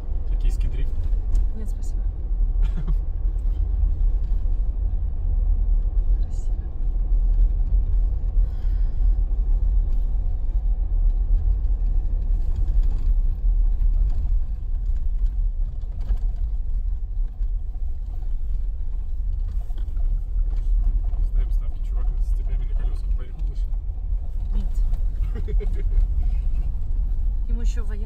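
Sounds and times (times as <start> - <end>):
car engine and tyre noise: 0.0 - 28.0.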